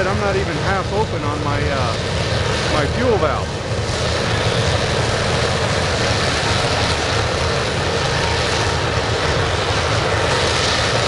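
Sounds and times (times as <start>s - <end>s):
oil burner rushing: 0.0s - 11.0s.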